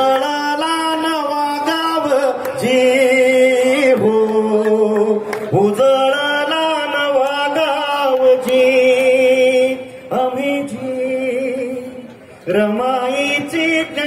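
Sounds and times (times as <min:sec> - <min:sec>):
person singing long wordless notes: 0:00.0 - 0:14.0.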